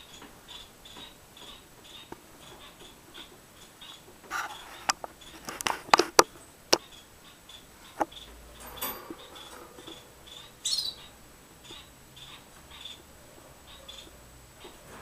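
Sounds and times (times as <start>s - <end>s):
canary chirping: 0.0s - 15.0s.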